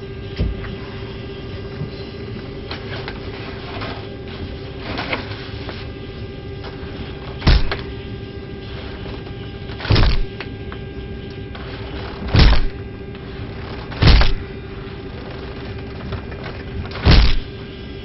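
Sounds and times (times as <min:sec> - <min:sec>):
steady cabin hum: 0:00.0 - 0:18.0.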